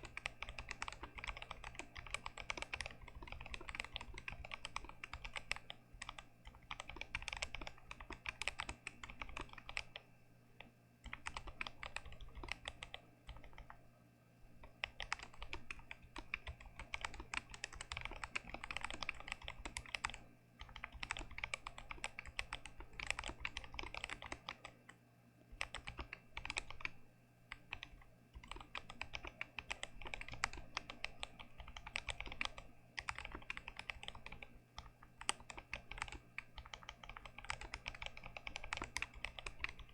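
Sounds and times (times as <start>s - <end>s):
fast typing on mechanical keyboard: 0.0s - 10.0s, 11.0s - 13.8s, 14.6s - 24.8s, 25.5s - 39.9s.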